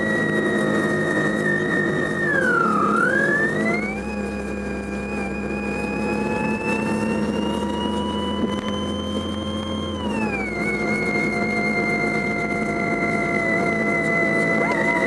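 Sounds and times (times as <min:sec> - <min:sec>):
diesel engine droning: 0:00.0 - 0:15.0
high electronic whine from radio: 0:00.0 - 0:15.0.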